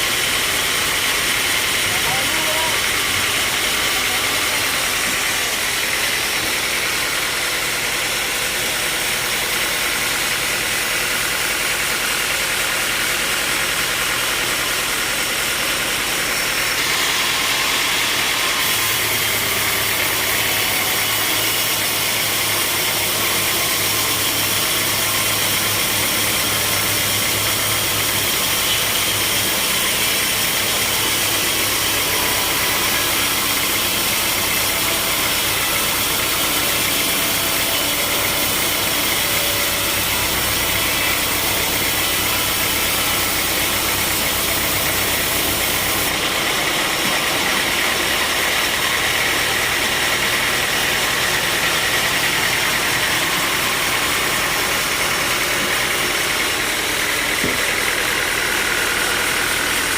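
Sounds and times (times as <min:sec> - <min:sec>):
sawmill machinery drone and hiss: 0:00.0 - 0:59.9.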